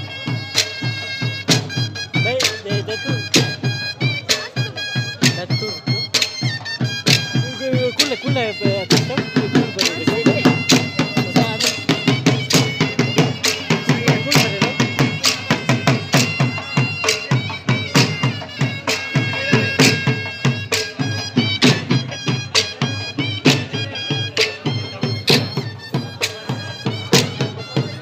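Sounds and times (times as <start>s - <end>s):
barrel drum rhythm: 0.0s - 28.0s
wind instrument melody: 0.0s - 28.0s.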